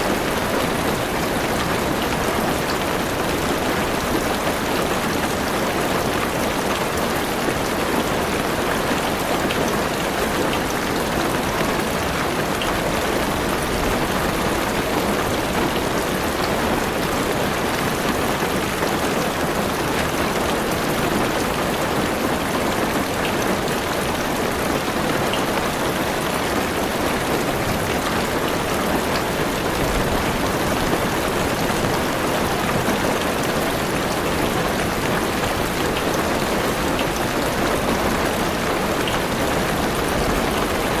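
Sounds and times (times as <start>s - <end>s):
heavy rain on car roof: 0.0s - 41.0s.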